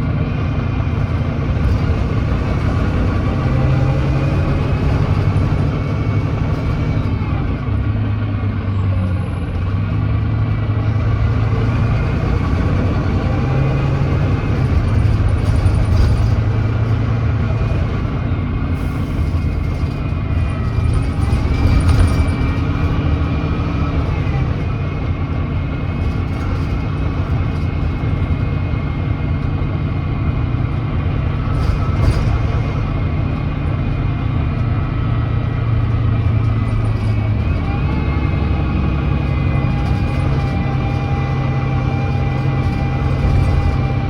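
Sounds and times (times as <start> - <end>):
diesel bus engine running: 0.0 - 44.0.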